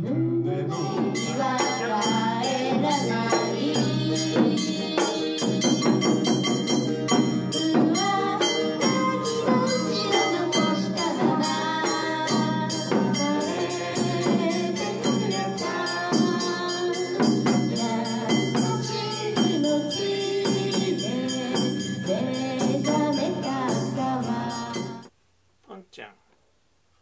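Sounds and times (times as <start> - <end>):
person singing: 0.0 - 6.2, 7.4 - 25.1.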